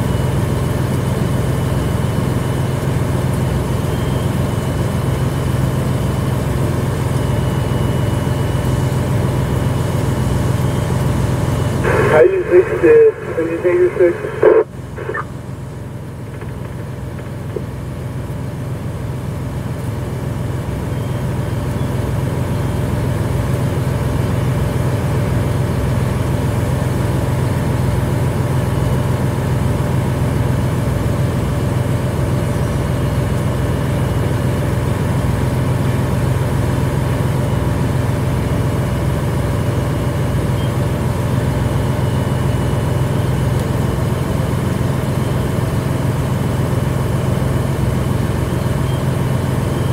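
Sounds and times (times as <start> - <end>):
fire engine running: 0.0 - 49.9.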